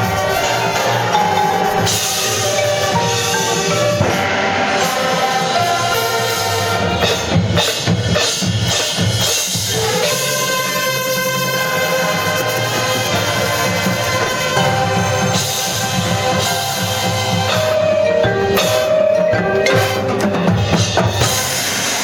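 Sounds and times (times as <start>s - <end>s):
bass drums and percussion: 0.0s - 22.0s
marching band playing: 0.0s - 22.0s.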